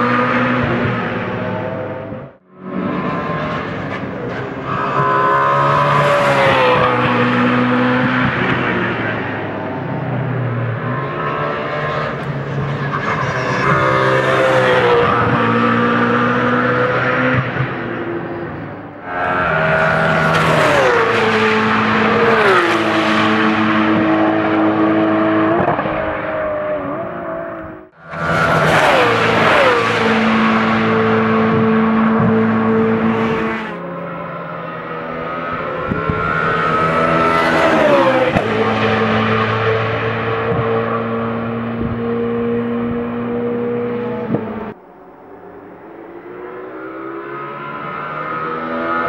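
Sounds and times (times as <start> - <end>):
race car engine passing by: 0.0 - 26.3, 28.0 - 44.8.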